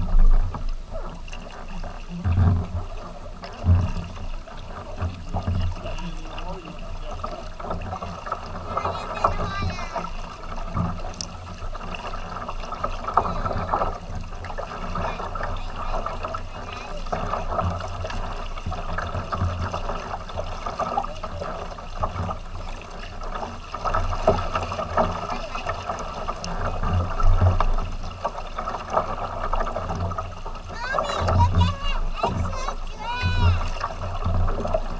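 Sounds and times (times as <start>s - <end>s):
paddle blades dipping: 0.0s - 34.9s
water lapping along a kayak hull: 0.0s - 34.9s.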